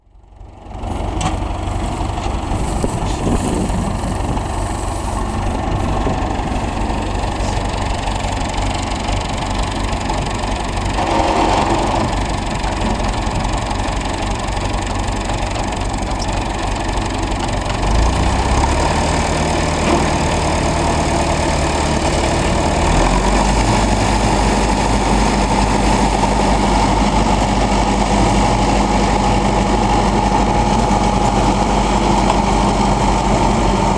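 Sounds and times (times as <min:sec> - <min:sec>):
trencher engine running: 0:00.0 - 0:33.9.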